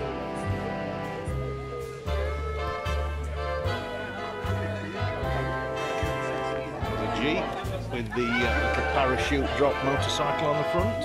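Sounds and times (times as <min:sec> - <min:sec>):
bass line: 0:00.0 - 0:11.0.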